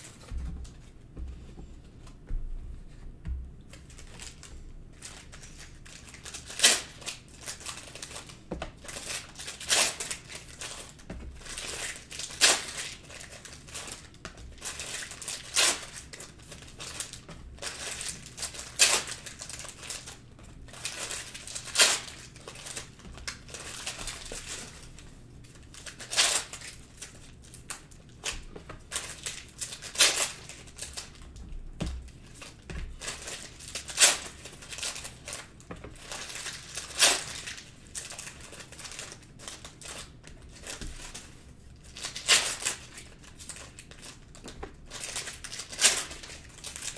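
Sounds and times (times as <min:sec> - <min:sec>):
foil wrappers tearing and crinkling: 0:03.8 - 0:31.3, 0:32.2 - 0:46.9.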